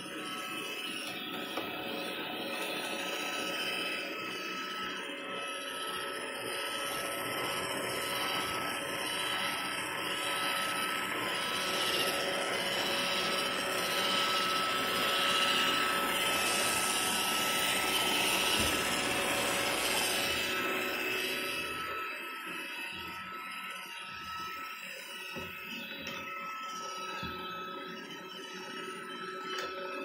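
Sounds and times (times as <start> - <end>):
robot vacuum motor whine: 0.0 - 30.0.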